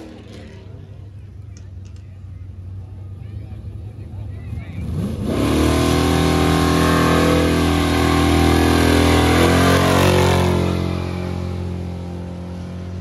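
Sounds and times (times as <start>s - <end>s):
pickup truck engine accelerating: 0.0s - 13.0s.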